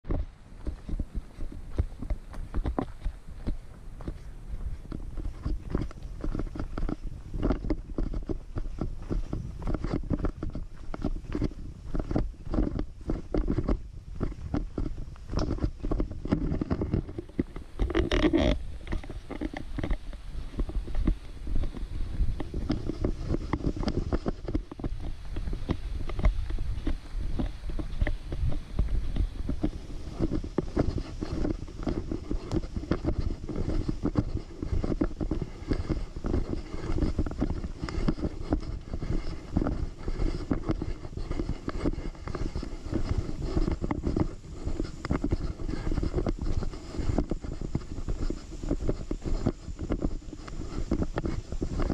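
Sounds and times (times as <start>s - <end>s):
footsteps on dirt trail: 0.0s - 51.9s
wind rumble on microphone: 0.0s - 51.9s
rustle: 0.1s - 51.9s.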